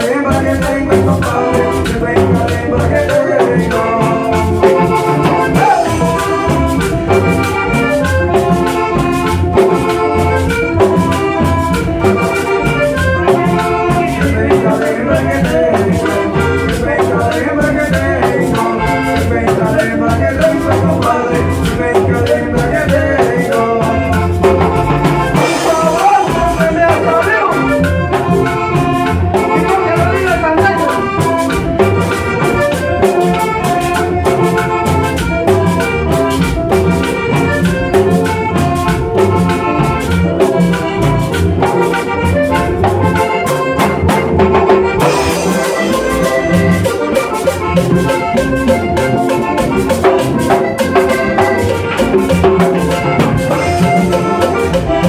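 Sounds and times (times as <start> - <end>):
button accordion melody: 0.0 - 55.0
electric bass: 0.0 - 55.0
percussion: 0.0 - 55.0.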